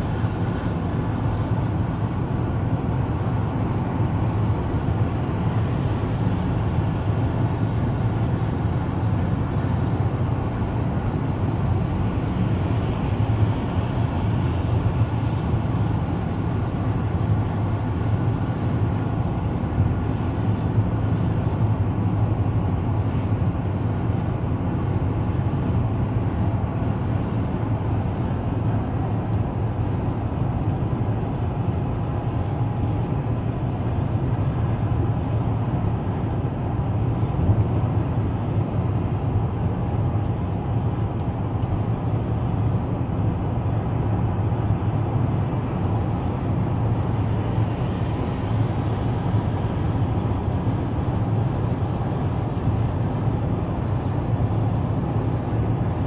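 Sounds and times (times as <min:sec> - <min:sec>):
low car engine hum: 0:00.0 - 0:56.0
road and tyre noise: 0:00.0 - 0:56.0.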